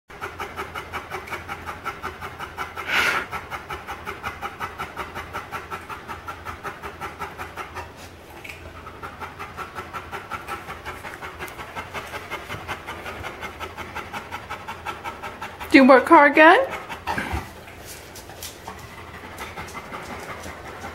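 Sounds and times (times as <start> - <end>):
dog panting loud and fast: 0.1 - 20.9.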